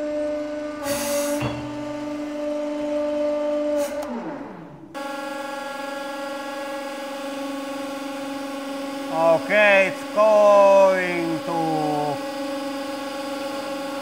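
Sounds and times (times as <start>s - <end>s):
hydraulic pump motor humming: 0.0s - 14.0s.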